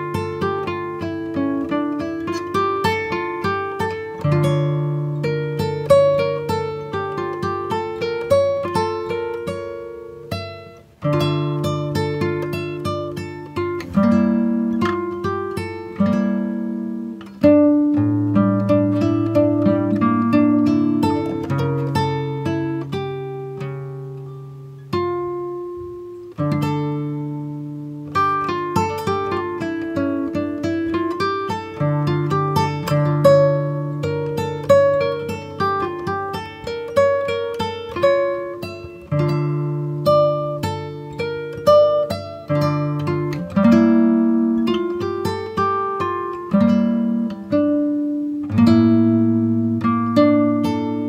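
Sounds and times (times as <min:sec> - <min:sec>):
slow plucked-string music: 0:00.0 - 0:51.0.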